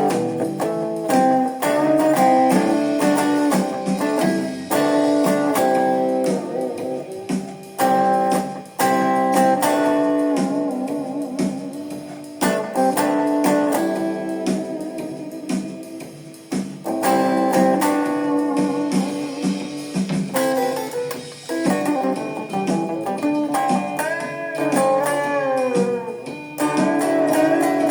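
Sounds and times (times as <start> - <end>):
guitar chords and picked notes: 0.0 - 27.9.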